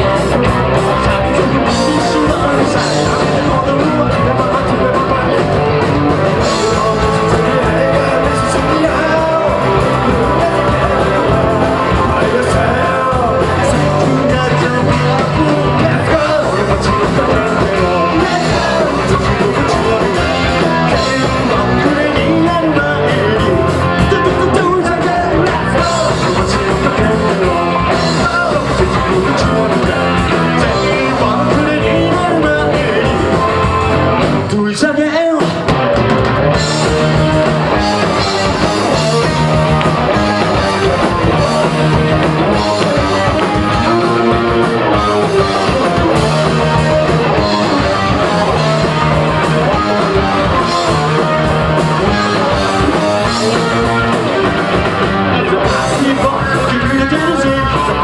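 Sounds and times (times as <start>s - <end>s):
person singing: 0.0s - 58.0s
rock band playing live: 0.0s - 58.0s.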